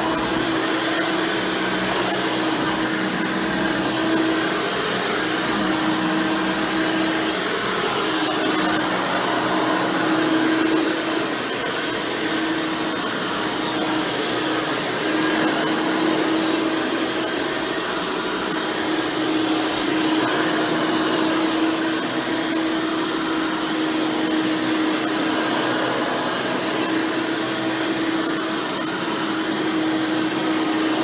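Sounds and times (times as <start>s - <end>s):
upright vacuum running: 0.0s - 31.0s.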